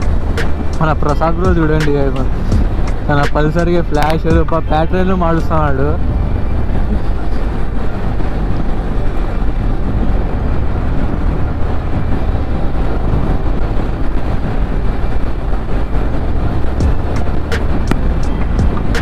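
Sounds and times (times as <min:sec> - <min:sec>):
wind buffeting microphone: 0:00.0 - 0:19.0
wind rush: 0:00.0 - 0:19.0.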